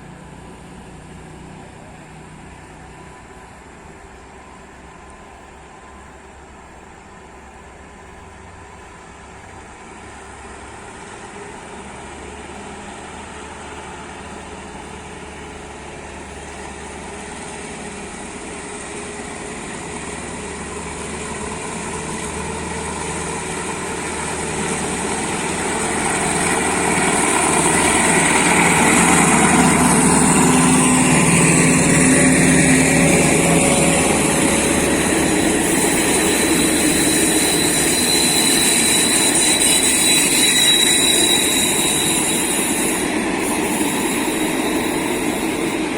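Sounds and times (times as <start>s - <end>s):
diesel locomotive approaching: 0.0s - 45.9s.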